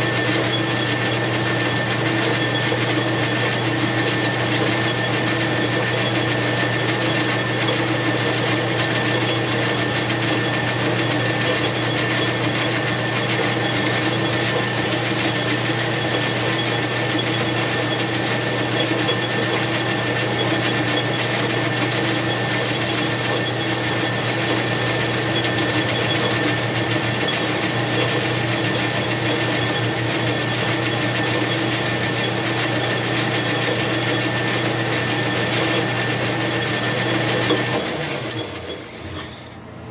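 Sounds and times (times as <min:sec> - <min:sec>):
metal lathe motor hum: 0:00.0 - 0:39.7.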